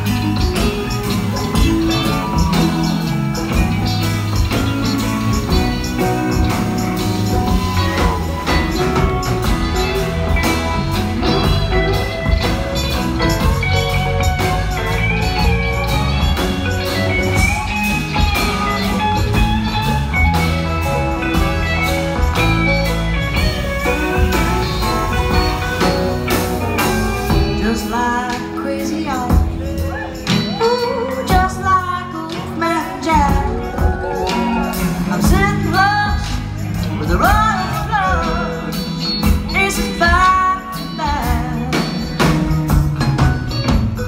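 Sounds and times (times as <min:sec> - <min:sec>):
country rock band playing: 0:00.0 - 0:44.0
lead guitar line: 0:00.0 - 0:44.0.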